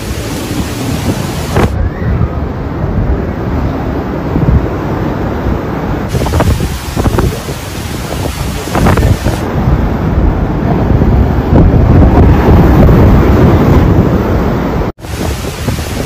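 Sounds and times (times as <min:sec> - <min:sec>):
heavy surf breaking: 0:00.0 - 0:16.0
hurricane wind buffeting microphone: 0:00.0 - 0:16.0.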